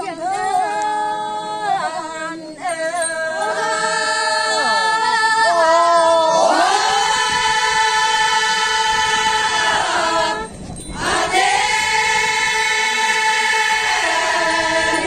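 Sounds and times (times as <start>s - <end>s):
women singing long held notes: 0.0s - 15.0s.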